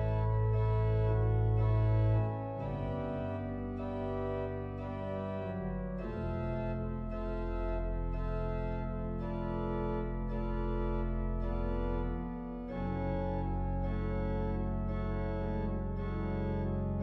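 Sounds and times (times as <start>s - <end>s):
organ chords with pedal bass: 0.0s - 17.0s.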